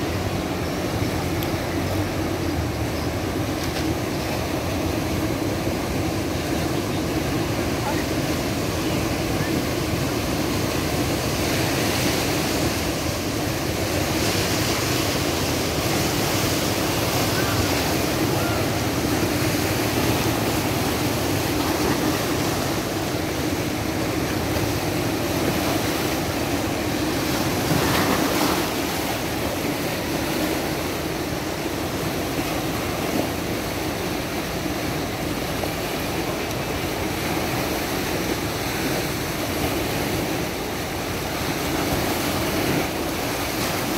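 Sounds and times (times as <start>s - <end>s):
river water rushing and breaking: 0.0s - 43.9s.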